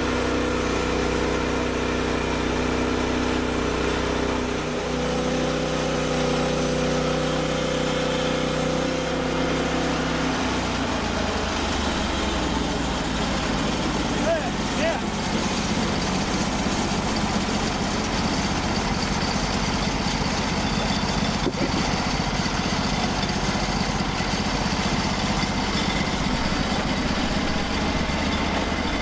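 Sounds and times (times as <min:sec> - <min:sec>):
band sawmill cutting a log: 0:00.0 - 0:29.0.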